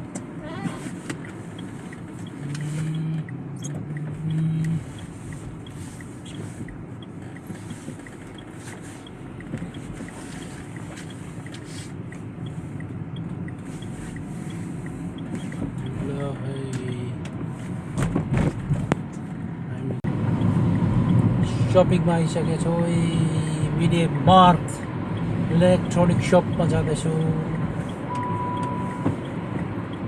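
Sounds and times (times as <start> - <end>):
vehicle road noise: 0.0 - 30.0
faint regular ticking: 1.1 - 17.5, 20.3 - 21.3, 22.0 - 30.0.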